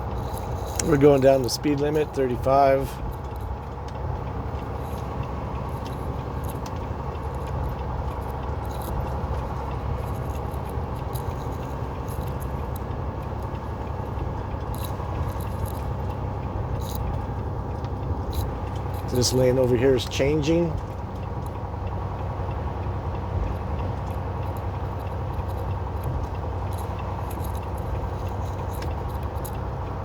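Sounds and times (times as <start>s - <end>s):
road noise: 0.0s - 30.0s
truck diesel engine droning: 0.0s - 30.0s
faint light ticks: 0.1s - 30.0s.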